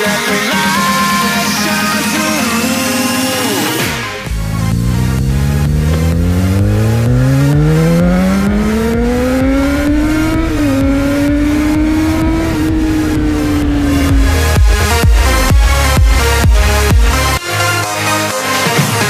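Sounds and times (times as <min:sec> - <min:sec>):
motorcycle engine accelerating hard: 0:00.0 - 0:17.4.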